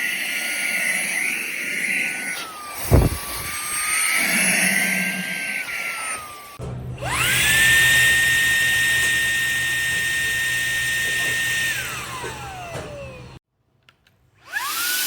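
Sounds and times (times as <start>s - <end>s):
handheld vacuum motor whine: 0.0s - 13.4s, 14.4s - 15.0s.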